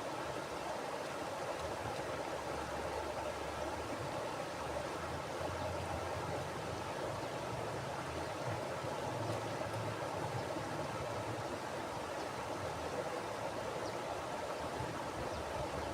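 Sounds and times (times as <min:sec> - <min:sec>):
river flowing over rocks: 0:00.0 - 0:15.9.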